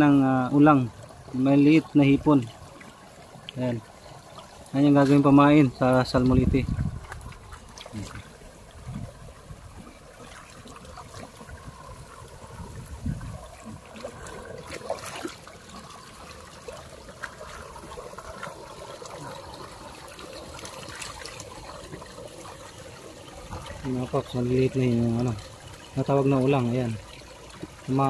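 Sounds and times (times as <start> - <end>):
creek water trickling: 0.0 - 28.0.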